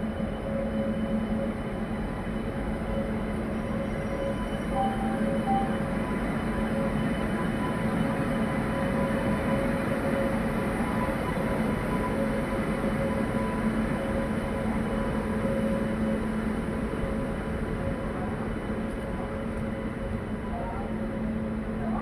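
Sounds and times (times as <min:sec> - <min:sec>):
locomotive electric hum: 0:00.0 - 0:22.0.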